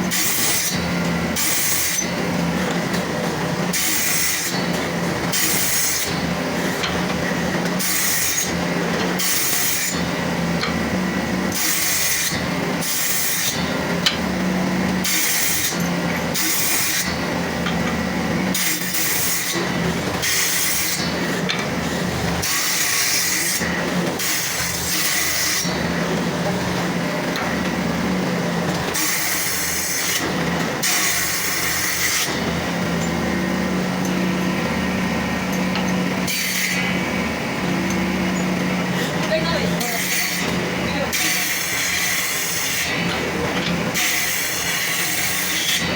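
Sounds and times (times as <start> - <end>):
tool working wood in strokes: 0.0 - 45.9.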